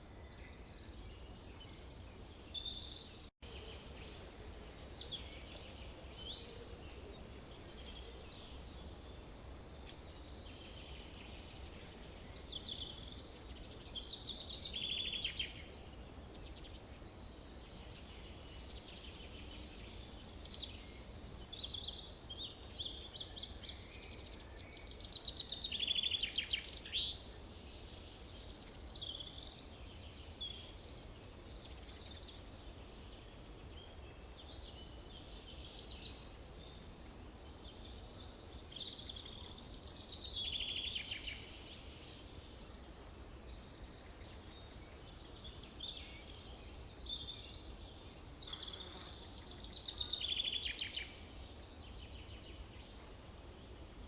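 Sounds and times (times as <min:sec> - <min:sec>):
faint forest hum: 0:00.0 - 0:54.0
songbirds chirping and trilling: 0:00.0 - 0:54.0.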